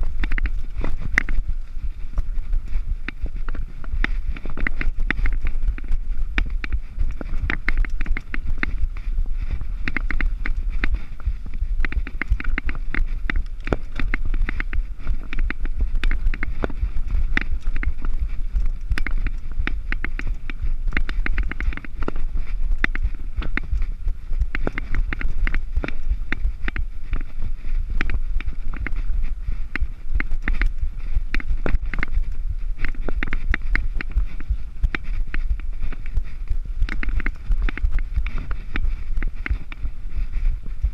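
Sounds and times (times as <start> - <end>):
bike rattling over rocks: 0.0 - 40.9
wind buffeting microphone: 0.0 - 40.9.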